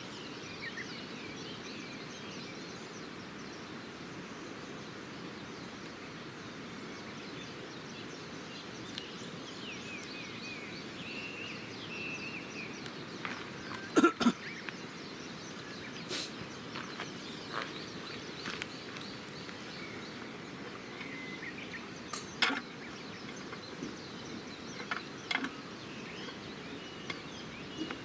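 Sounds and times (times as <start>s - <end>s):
small birds chirping: 0.0s - 28.0s
steady outdoor hiss: 0.0s - 28.0s.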